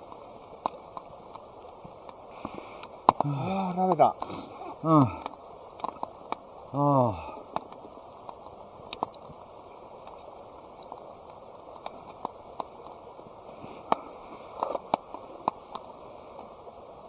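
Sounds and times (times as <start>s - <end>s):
sharp clicks and pops: 0.0s - 6.5s, 7.4s - 13.1s, 13.8s - 16.6s.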